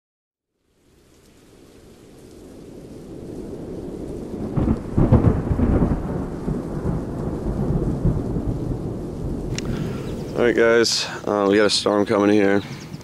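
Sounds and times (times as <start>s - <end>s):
rain: 0.5s - 13.0s
thunder rumble: 1.4s - 13.0s.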